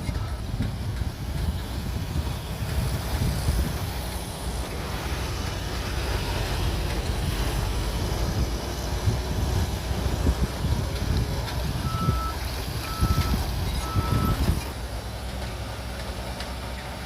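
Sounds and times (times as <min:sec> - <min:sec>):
wind buffeting microphone: 0:00.0 - 0:15.3
bulldozer diesel engine running: 0:00.0 - 0:17.0.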